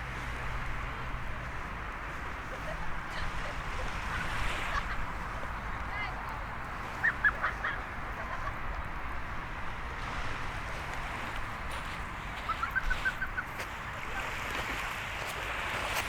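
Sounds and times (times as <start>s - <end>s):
sea surf: 0.0s - 16.0s
wind: 0.0s - 16.0s.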